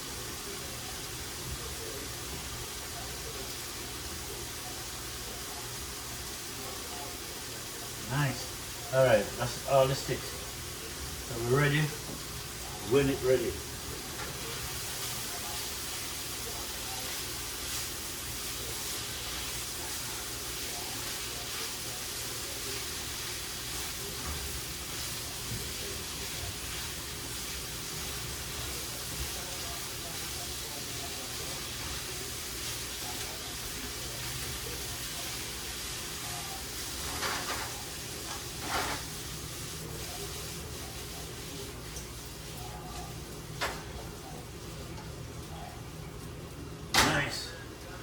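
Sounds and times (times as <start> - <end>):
food frying in oil: 0.0 - 48.0.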